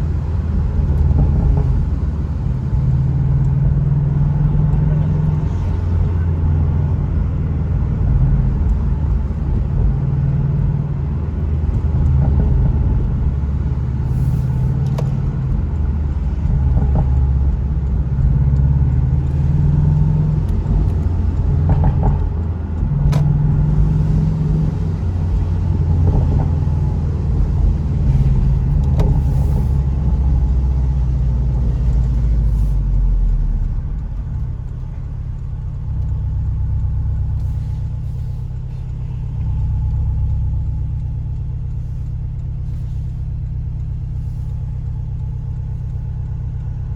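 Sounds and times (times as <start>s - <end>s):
car engine while driving: 0.0s - 46.9s.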